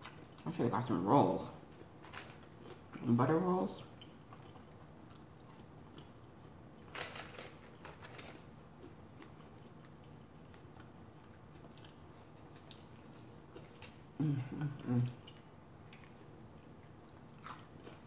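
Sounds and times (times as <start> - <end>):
person chewing food: 0.0 - 0.5, 1.7 - 3.0, 3.9 - 18.0.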